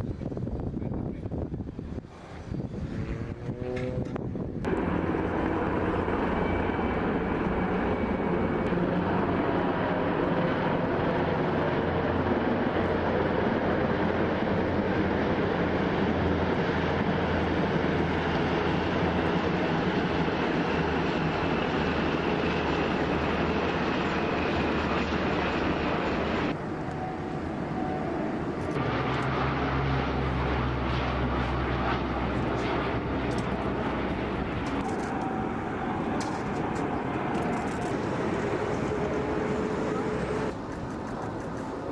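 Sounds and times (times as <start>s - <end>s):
aircraft engines running: 0.0s - 41.9s.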